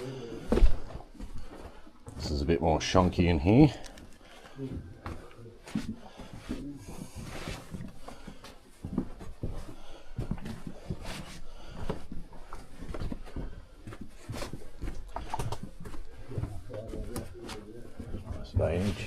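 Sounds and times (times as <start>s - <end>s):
footsteps on rocky floor: 0.4s - 19.0s.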